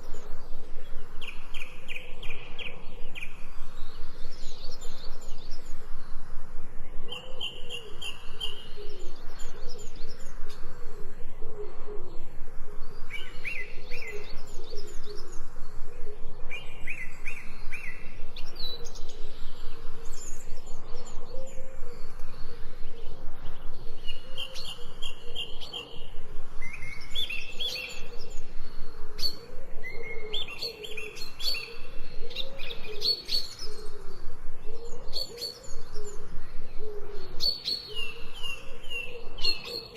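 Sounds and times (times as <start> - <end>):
repeated low bird calls: 0.0 - 39.9.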